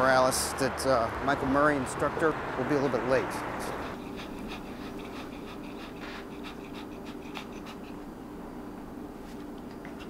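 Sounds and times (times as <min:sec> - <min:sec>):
steady low hum: 0:01.0 - 0:10.0.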